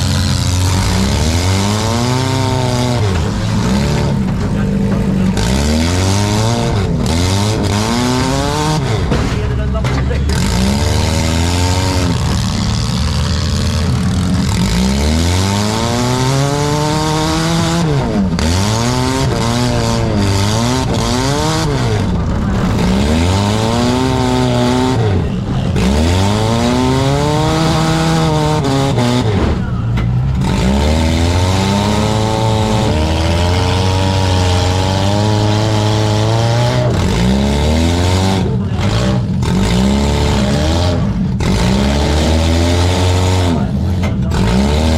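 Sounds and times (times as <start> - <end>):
car engines revving hard: 0.0 - 44.9.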